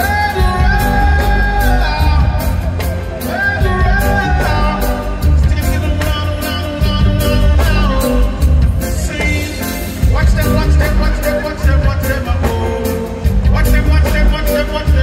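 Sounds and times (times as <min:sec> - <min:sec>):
live reggae band playing: 0:00.0 - 0:15.0
man singing long sliding notes: 0:00.0 - 0:15.0.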